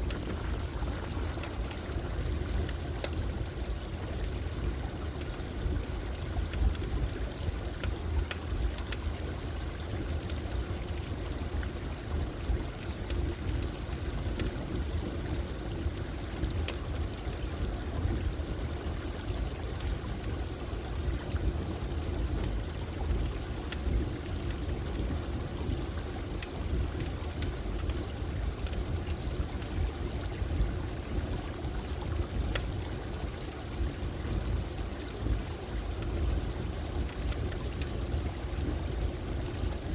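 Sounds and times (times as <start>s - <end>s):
campfire pops and crackles: 0.0s - 39.9s
running water flowing: 0.0s - 39.9s.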